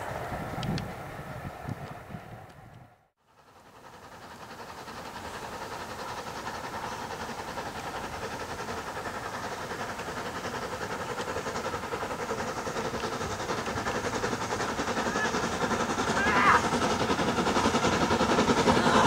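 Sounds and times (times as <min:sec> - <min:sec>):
train approaching with pulsing beat: 0:00.0 - 0:19.0.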